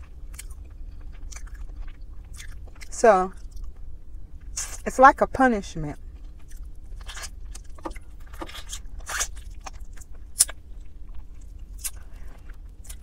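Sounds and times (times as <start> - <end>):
person chewing chicken: 0.0 - 4.7, 6.0 - 13.0
steady low hum: 0.0 - 13.0.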